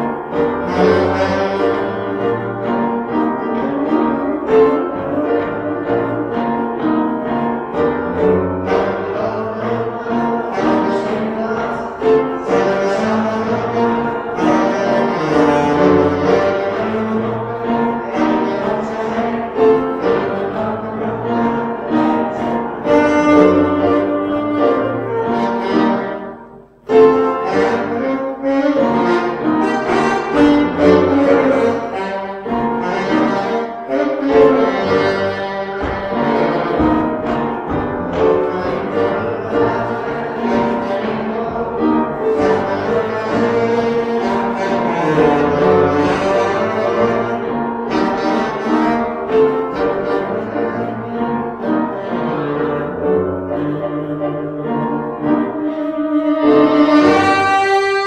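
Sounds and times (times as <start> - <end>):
piano: 0.0 - 58.0
saxophone: 0.0 - 58.0.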